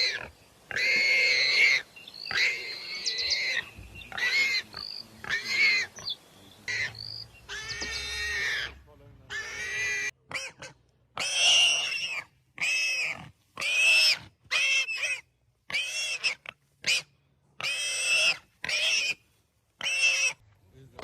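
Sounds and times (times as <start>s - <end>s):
animal high-pitched cries: 0.0s - 6.1s, 6.7s - 19.2s, 19.8s - 20.4s.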